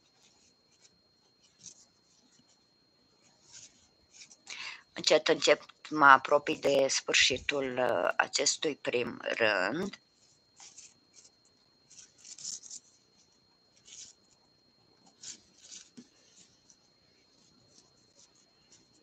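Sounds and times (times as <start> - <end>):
yarn rustling through crochet hook: 0.0 - 2.6, 3.2 - 8.8, 9.4 - 19.0.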